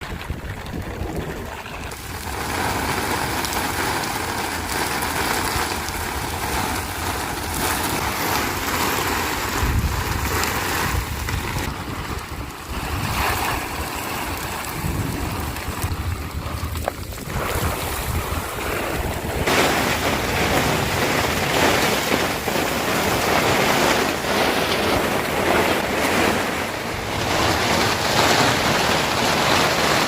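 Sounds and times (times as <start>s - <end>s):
gusting blizzard wind: 0.0s - 30.0s
wind buffeting microphone: 0.0s - 30.0s.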